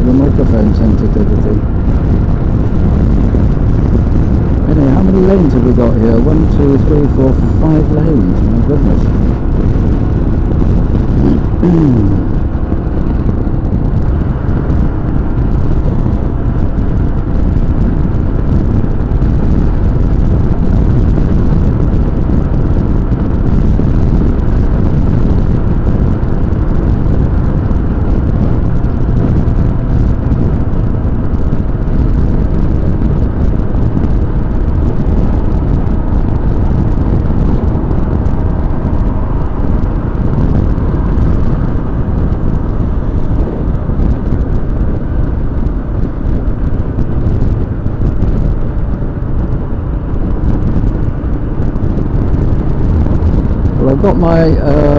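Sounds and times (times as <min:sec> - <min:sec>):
motorcycle engine: 0:00.0 - 0:54.9
wind rushing over microphone: 0:00.0 - 0:54.9.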